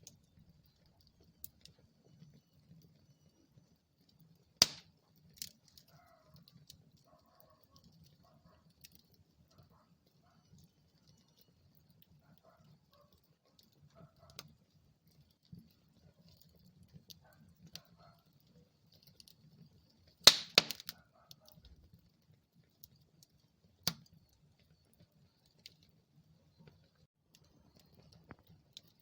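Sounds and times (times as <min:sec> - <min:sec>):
low rumble of flames: 0:00.0 - 0:21.0, 0:21.6 - 0:29.0
wood fire crackling: 0:00.0 - 0:29.0.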